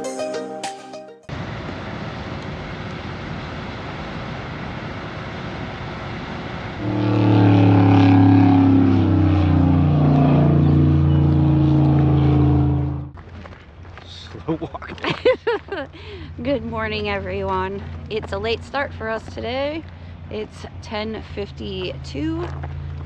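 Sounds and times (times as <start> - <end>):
loud engine humming: 1.3 - 13.2, 15.1 - 23.0.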